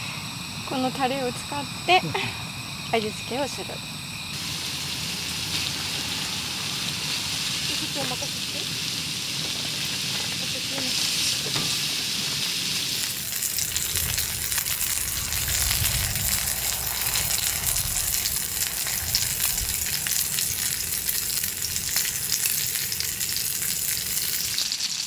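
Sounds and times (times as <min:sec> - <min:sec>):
meat sizzling in a pan: 0:04.3 - 0:25.0.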